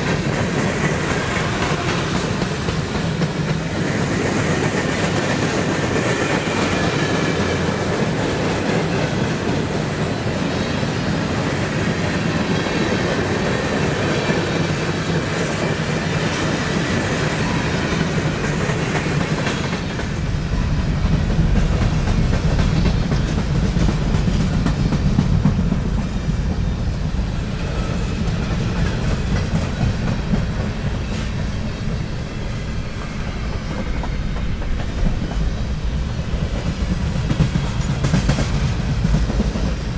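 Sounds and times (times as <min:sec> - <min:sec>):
train wheels clicking over rails: 0:00.0 - 0:39.9.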